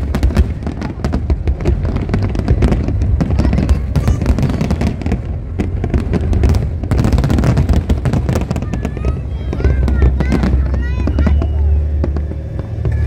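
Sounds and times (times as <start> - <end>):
fireworks crackling: 0.0 - 13.0
low rumble of firework bursts: 0.0 - 13.0.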